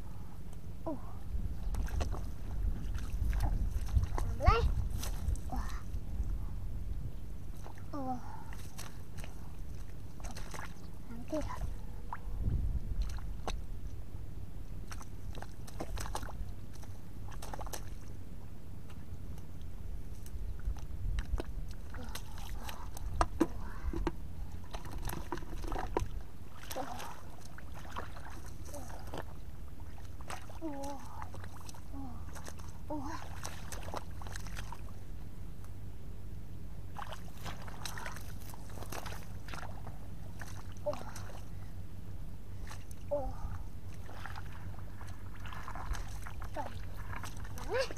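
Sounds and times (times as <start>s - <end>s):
low rumble: 0.0s - 47.9s
steady low hum: 0.0s - 47.9s
hands squelching through wet mud: 1.5s - 5.9s, 7.5s - 13.9s, 14.7s - 18.2s, 18.8s - 35.8s, 36.9s - 41.8s, 42.4s - 47.9s.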